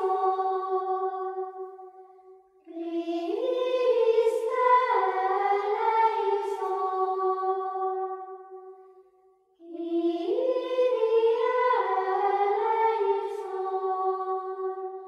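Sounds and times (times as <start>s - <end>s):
slow sung melody: 0.0s - 15.0s.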